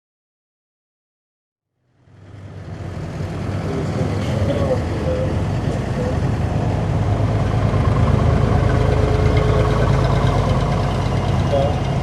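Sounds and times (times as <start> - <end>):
large vehicle engine idling: 1.8 - 12.0.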